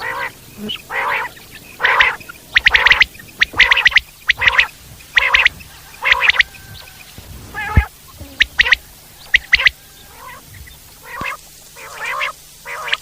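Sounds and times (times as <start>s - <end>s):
quail calling: 0.0s - 13.0s.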